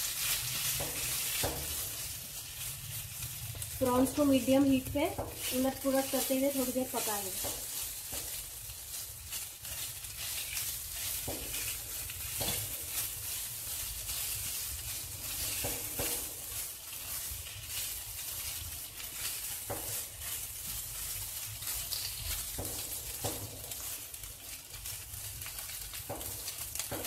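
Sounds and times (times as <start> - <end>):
prawns sizzling in a wok: 0.0 - 27.0
spatula scraping and tapping pan: 0.0 - 27.0.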